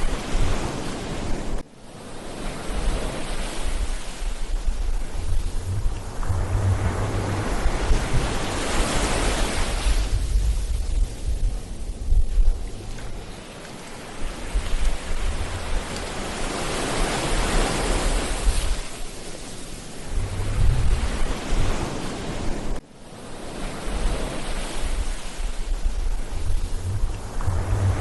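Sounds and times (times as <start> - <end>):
ocean surf breaking on beach: 0.0 - 28.0
wind buffeting microphone: 2.8 - 19.1, 19.9 - 22.8, 23.9 - 28.0.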